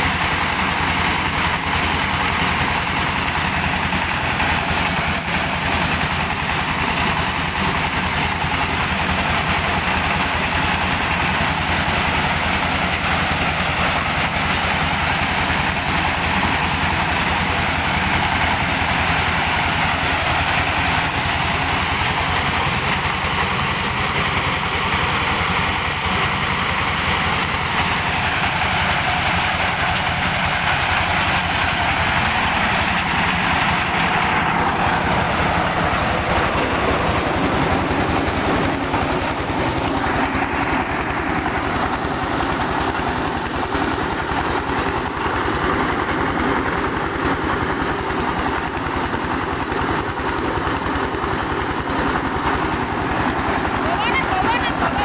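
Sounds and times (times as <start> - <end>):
diesel engine running: 0.0 - 55.0
threshing drum rattling: 0.0 - 55.0.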